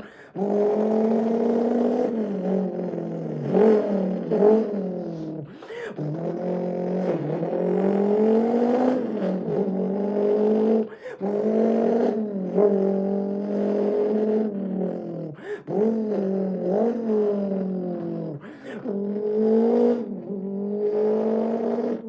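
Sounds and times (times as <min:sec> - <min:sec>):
man imitating engine with mouth: 0:00.0 - 0:22.0.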